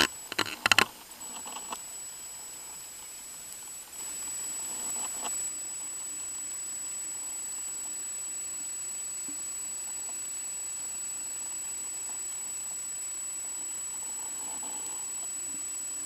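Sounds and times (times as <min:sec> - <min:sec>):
steady hiss: 0:00.0 - 0:16.0
thin high whine: 0:00.0 - 0:16.0.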